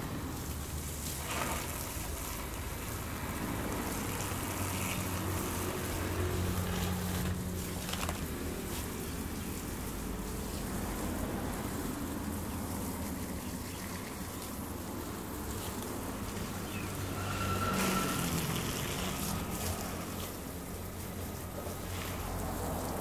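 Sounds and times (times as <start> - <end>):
water from hose splashing: 0.0 - 23.0.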